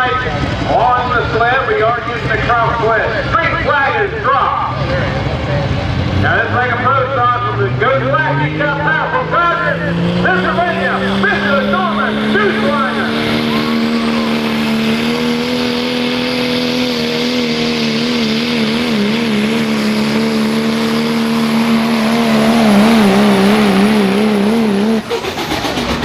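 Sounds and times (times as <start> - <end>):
diesel pickup engine at full throttle: 0.0 - 26.0.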